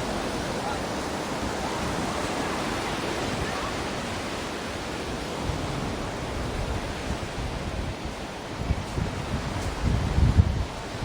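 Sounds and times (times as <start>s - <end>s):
ocean waves breaking on shore: 0.0s - 11.0s.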